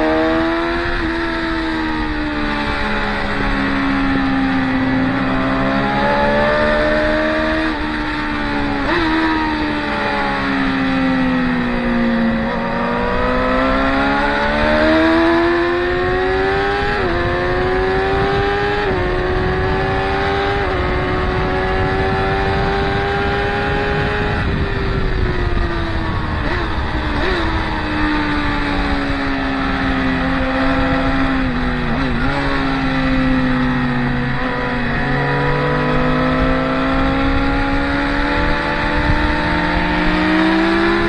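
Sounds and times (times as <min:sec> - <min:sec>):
motorcycles accelerating with upshifts: 0:00.0 - 0:41.0.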